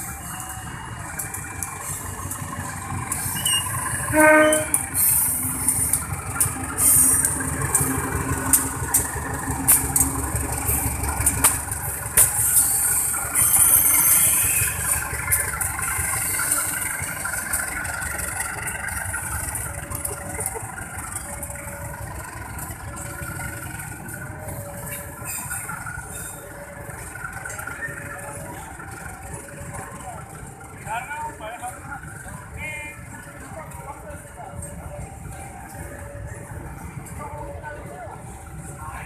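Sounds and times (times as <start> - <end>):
locomotive engine rumble: 0.0 - 39.0
wheels clicking over rail joints: 0.0 - 39.0.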